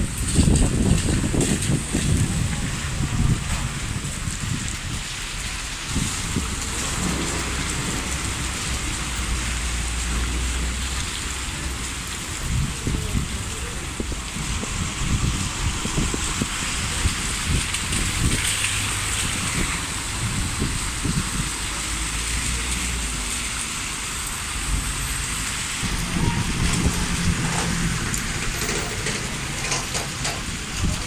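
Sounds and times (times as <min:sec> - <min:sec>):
cars driving on wet road: 0:00.0 - 0:31.0
rain hissing: 0:00.0 - 0:31.0.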